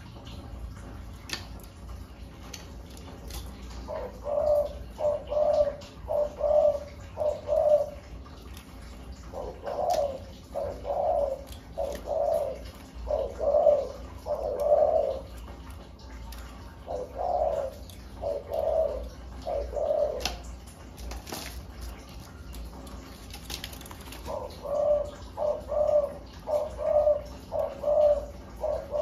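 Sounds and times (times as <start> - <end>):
dove cooing: 0.2 - 29.0.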